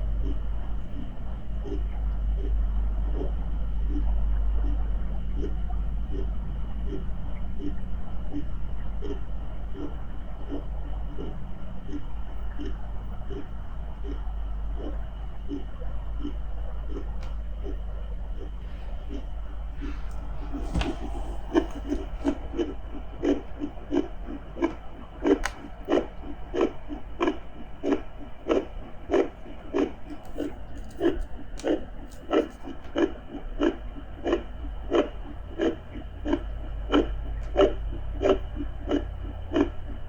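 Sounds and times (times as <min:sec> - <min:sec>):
doppler heartbeat whooshing pulses: 0:00.0 - 0:32.4
deep underwater-style rumble: 0:00.0 - 0:40.0.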